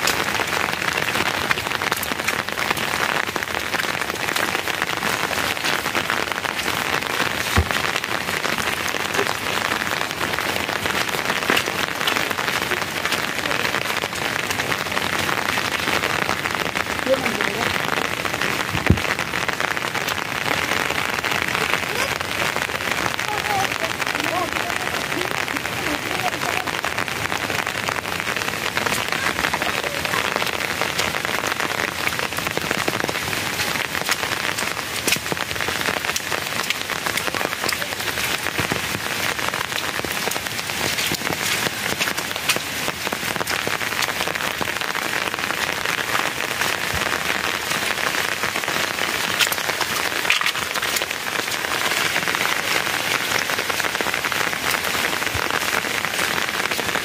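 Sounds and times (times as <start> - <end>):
steady rain on hard surface: 0.0 - 57.0.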